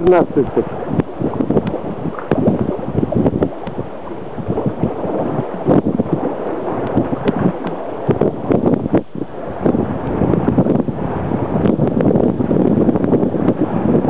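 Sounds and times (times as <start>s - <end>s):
floodwater sloshing and lapping: 0.0s - 14.0s
gusty wind buffeting microphone: 0.0s - 14.0s.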